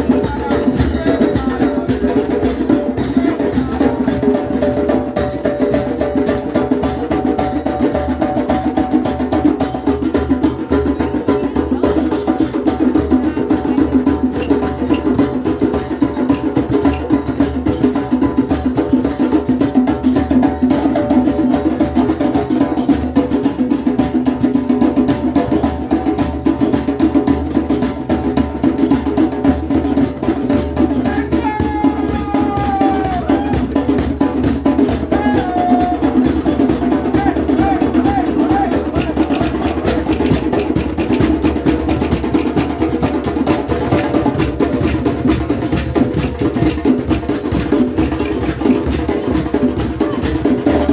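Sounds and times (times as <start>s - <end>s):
percussion band drumming: 0.0s - 50.9s.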